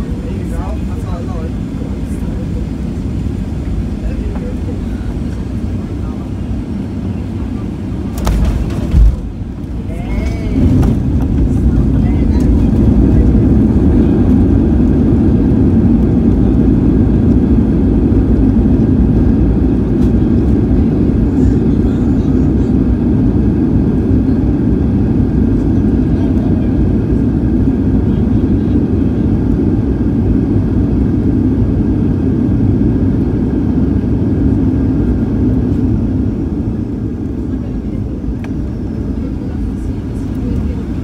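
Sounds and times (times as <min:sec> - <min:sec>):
airplane cabin rumble: 0:00.0 - 0:41.0.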